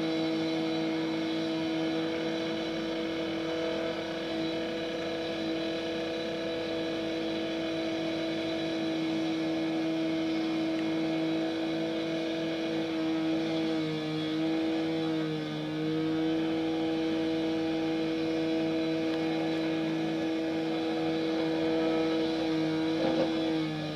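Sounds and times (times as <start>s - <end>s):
engine running at high speed: 0.0s - 23.9s.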